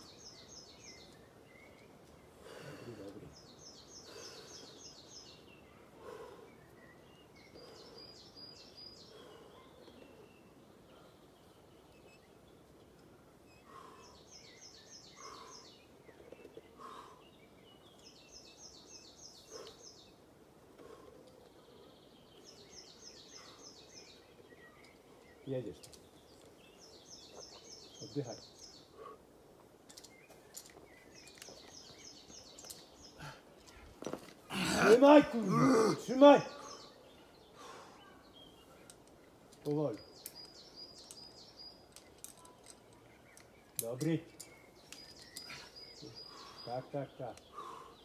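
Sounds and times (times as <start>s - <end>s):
songbird singing: 0.0s - 48.0s.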